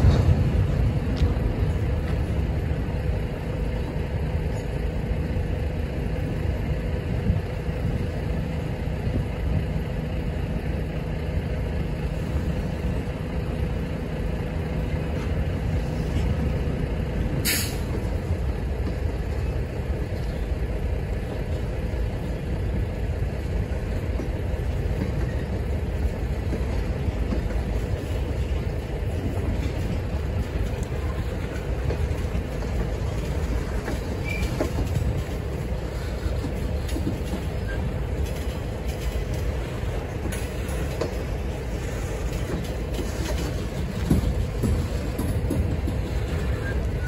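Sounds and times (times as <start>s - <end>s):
steel wheels rumbling on rails: 0.0s - 47.0s.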